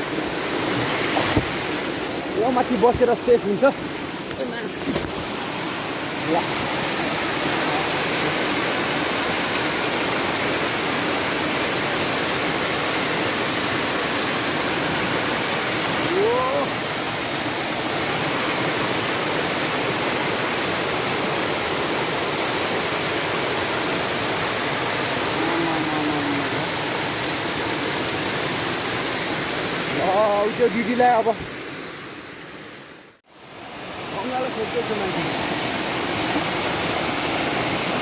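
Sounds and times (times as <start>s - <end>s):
floodwater rushing: 0.0s - 32.1s, 33.3s - 38.0s.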